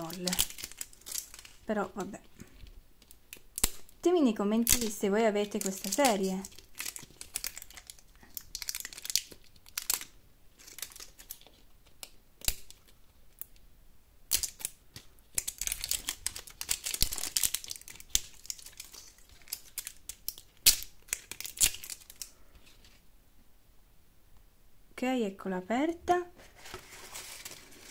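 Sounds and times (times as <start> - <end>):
plastic wrapper crinkling and tearing: 0.0 - 13.6, 14.3 - 23.0, 26.4 - 27.9.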